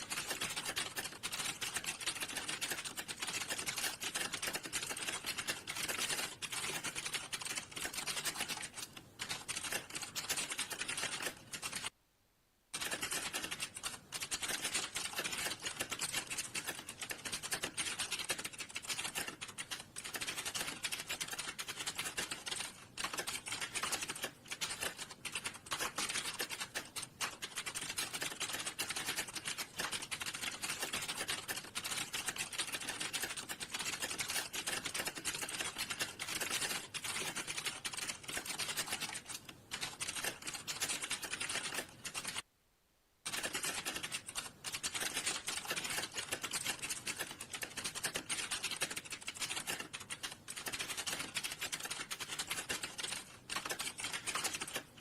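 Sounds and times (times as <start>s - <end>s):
computer keyboard typing fast: 0.0s - 11.9s, 12.7s - 42.4s, 43.2s - 55.0s.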